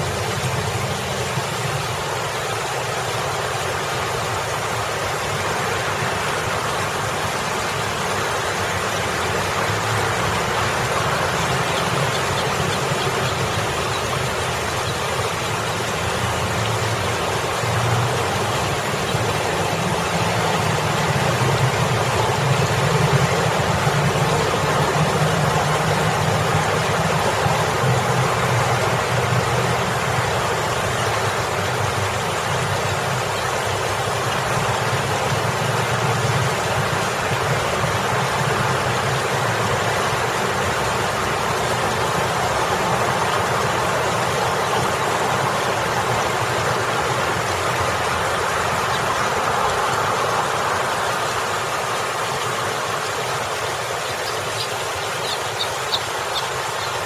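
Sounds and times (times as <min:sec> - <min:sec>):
fountain water splashing: 0:00.0 - 0:57.0
vehicle engines idling: 0:05.8 - 0:57.0.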